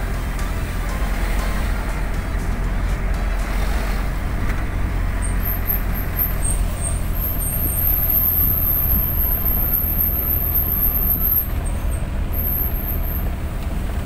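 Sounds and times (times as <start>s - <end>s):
engine and tyre rumble: 0.0s - 14.0s.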